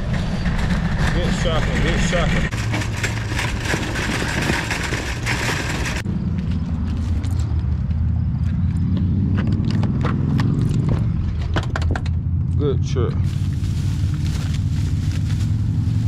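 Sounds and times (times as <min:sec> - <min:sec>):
truck diesel engine rumbling: 0:00.0 - 0:09.3, 0:09.9 - 0:16.0.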